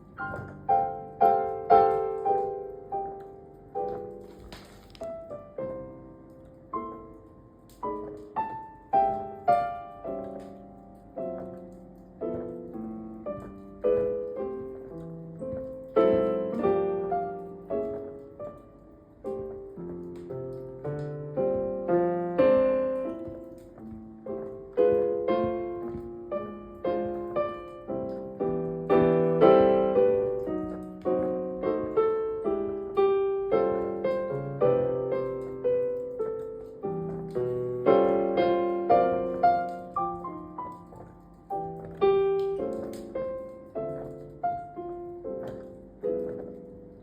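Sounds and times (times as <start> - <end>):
solo piano playing: 0.0 - 47.0.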